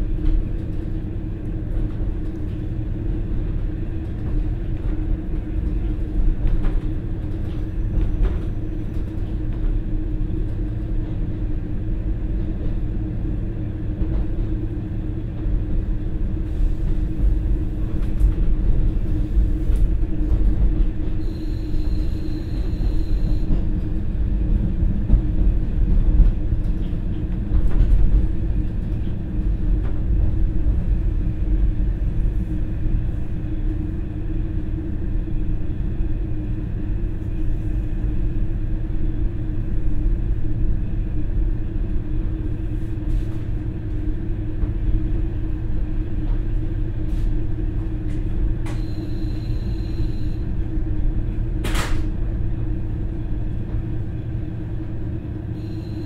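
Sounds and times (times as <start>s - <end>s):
diesel railcar rumble and drone: 0.0s - 56.0s.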